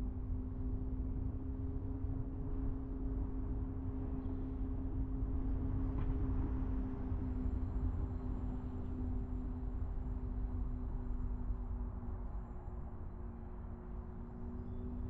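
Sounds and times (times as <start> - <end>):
constant hum: 0.0 - 15.0
car engine and tyres rumbling: 0.1 - 15.0.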